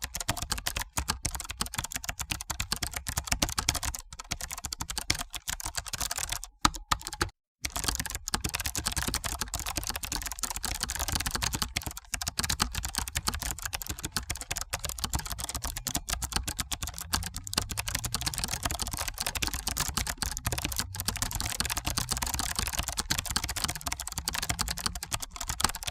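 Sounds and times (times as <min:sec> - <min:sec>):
fast typing on keyboard: 0:00.0 - 0:25.9.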